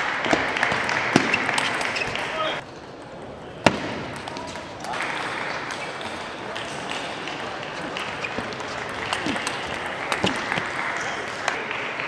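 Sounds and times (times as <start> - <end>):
spectators applauding: 0.0 - 2.6, 4.8 - 12.0.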